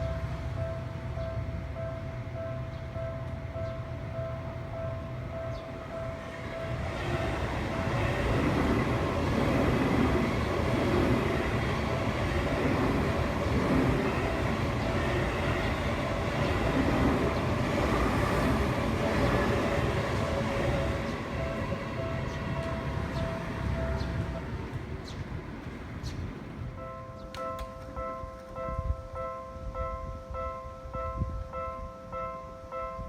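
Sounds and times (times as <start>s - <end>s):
level crossing warning bell ringing: 0.0s - 24.7s, 26.7s - 33.0s
electric train rumbling past: 0.0s - 33.0s.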